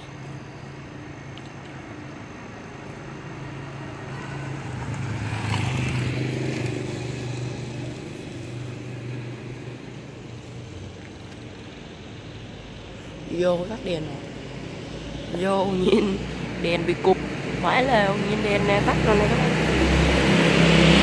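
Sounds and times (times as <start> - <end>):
low engine hum: 0.0 - 21.0
vehicle passing: 2.5 - 21.0.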